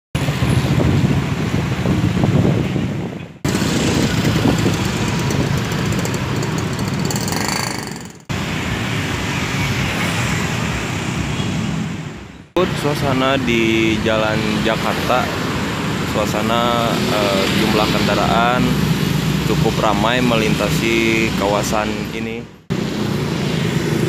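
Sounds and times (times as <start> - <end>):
car engines passing: 0.2 - 24.0
motorcycles passing: 0.2 - 24.0.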